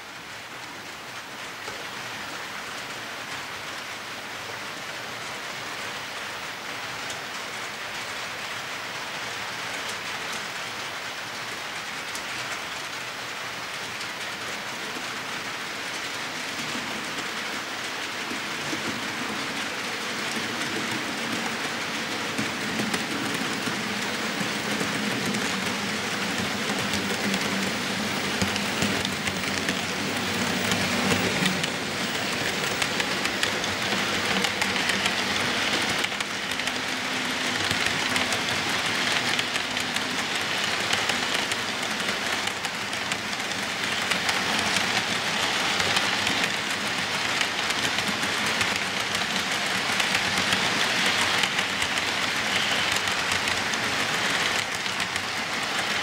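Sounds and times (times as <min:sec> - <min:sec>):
model train wheels rattling on rails: 0:05.5 - 0:56.0.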